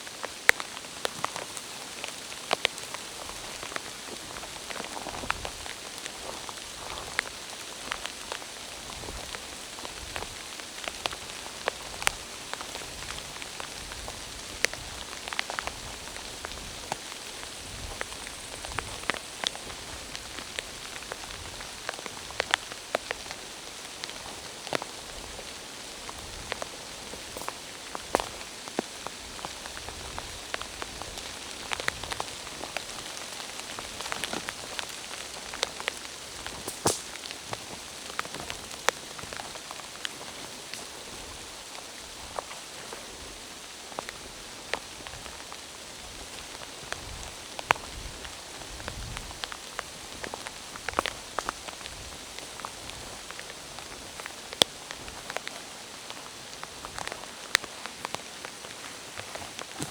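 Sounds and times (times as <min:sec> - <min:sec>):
steady hiss of rain: 0:00.0 - 0:59.9.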